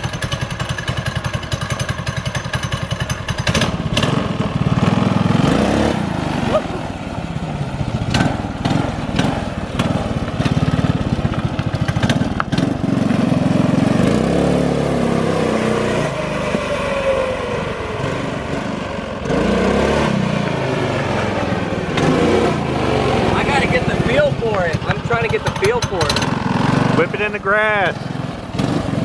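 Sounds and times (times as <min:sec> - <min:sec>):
small gas engine running: 0:00.0 - 0:29.0.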